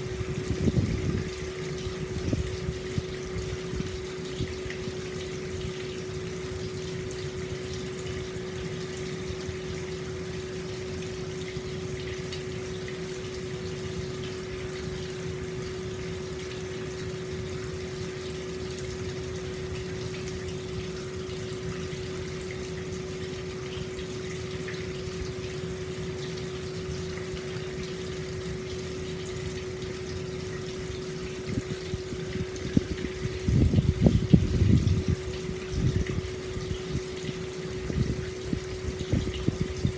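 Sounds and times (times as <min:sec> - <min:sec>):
water pouring into a bath: 0:00.0 - 0:39.9.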